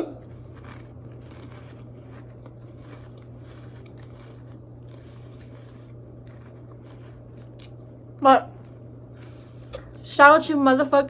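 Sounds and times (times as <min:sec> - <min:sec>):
chewing crackers: 0:00.0 - 0:10.0
steady low hum: 0:00.0 - 0:11.0.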